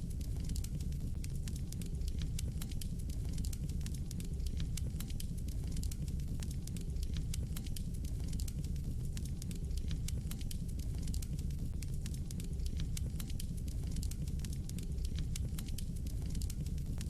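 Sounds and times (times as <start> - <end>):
flames rumbling in fireplace: 0.0 - 17.0
logs crackling and popping: 0.0 - 17.0.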